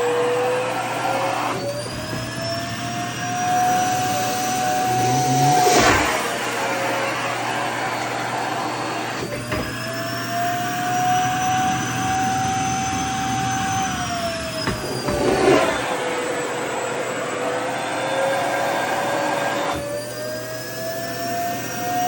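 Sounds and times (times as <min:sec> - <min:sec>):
vacuum cleaner whining: 0:00.0 - 0:22.0.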